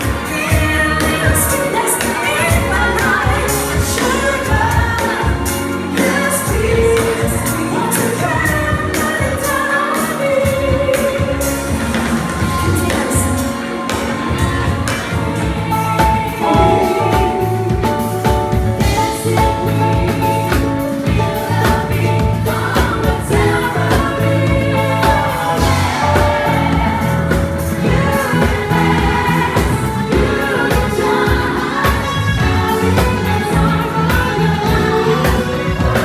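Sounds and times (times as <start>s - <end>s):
group of singers: 0.0s - 36.0s
live band playing: 0.0s - 36.0s.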